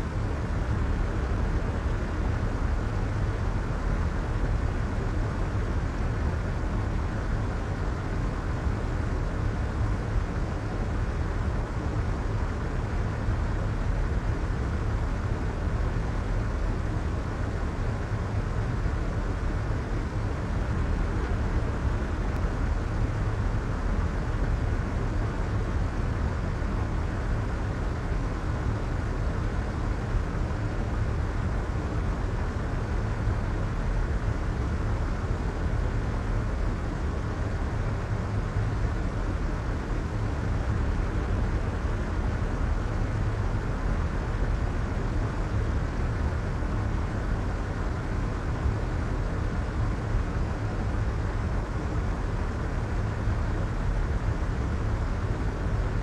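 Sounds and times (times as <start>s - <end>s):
soft white noise: 0.0s - 56.0s.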